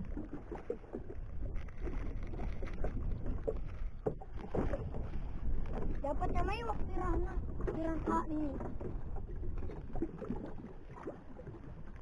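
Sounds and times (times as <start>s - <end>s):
water against boat hull: 0.0s - 12.0s
wind buffeting microphone: 1.0s - 11.6s.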